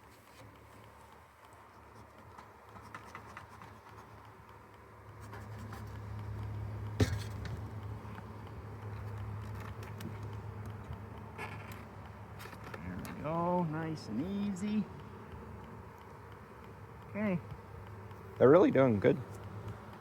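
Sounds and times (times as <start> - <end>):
beehive parts clicking and scraping: 0.0 - 20.0
low steady hum: 3.4 - 20.0.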